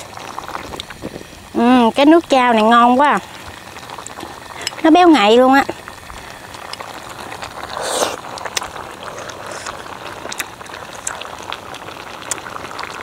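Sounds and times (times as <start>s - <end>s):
broth boiling and bubbling: 0.0s - 13.0s.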